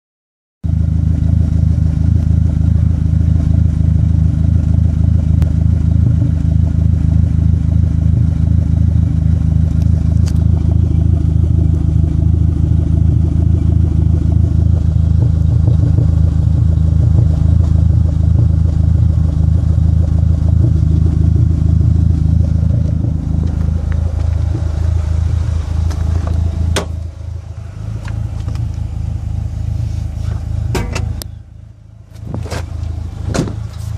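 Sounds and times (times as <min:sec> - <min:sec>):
misfiring car engine running: 0:00.6 - 0:33.9.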